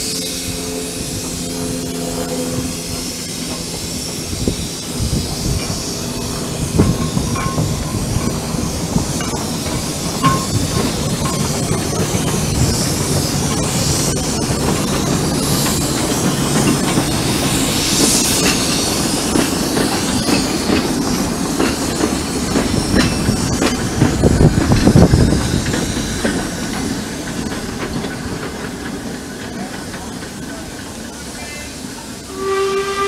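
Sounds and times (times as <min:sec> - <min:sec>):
steam hissing: 0:00.0 - 0:33.0
steam locomotives passing: 0:00.0 - 0:33.0
train wheels clattering over rail joints: 0:02.2 - 0:31.3.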